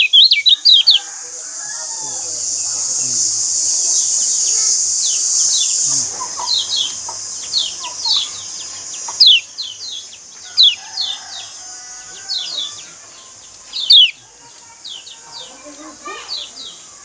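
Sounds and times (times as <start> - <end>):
birds chirping: 0.0 - 17.0
steady high hiss: 0.0 - 17.0.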